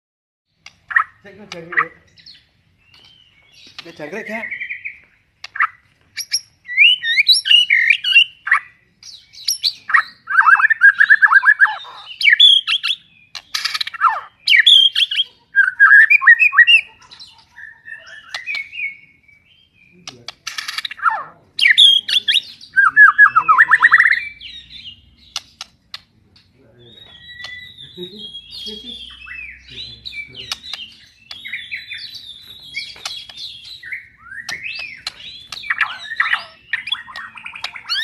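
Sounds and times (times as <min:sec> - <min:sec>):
bird singing varied song: 0:00.5 - 0:38.0.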